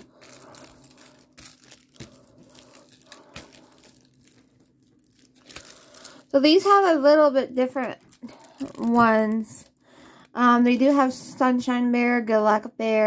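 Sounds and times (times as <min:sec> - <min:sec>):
plastic sheets crinkling and rustling: 0:00.0 - 0:09.8, 0:10.4 - 0:11.2.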